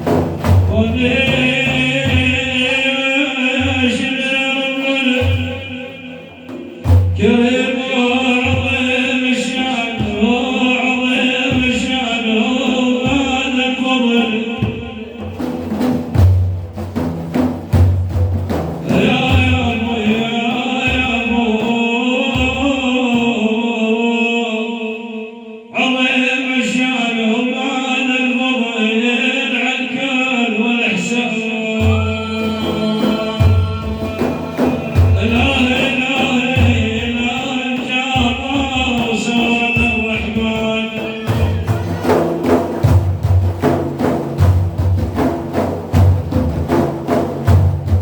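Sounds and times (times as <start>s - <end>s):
steady drum strokes: 0.0s - 23.5s, 31.8s - 48.0s.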